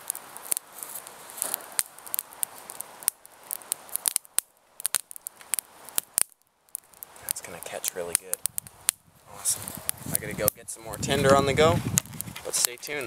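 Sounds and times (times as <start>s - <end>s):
small fire crackling: 0.0s - 13.0s.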